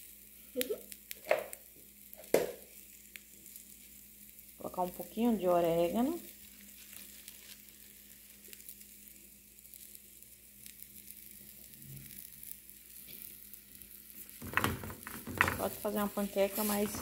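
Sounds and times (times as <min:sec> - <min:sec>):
eggs sizzling in a frying pan: 0:00.0 - 0:17.0.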